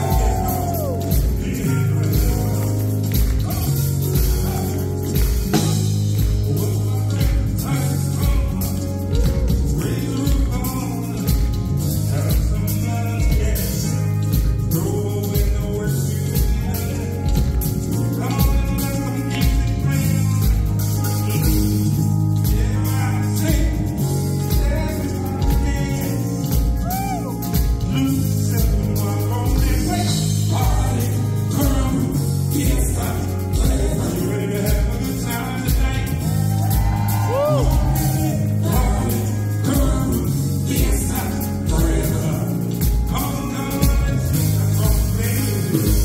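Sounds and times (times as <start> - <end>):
drums and bass beat: 0.0 - 46.0
live band music: 0.0 - 46.0
man singing: 0.0 - 46.0.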